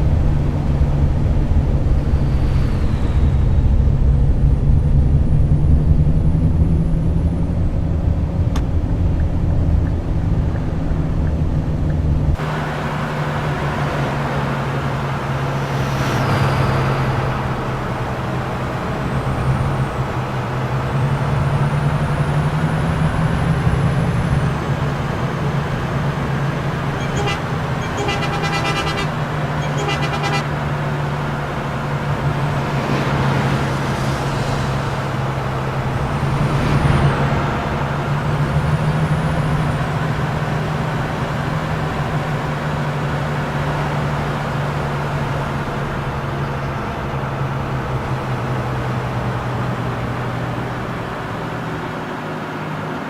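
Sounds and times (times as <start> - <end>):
coach diesel engine droning: 0.0 - 53.0
road noise: 0.0 - 53.0.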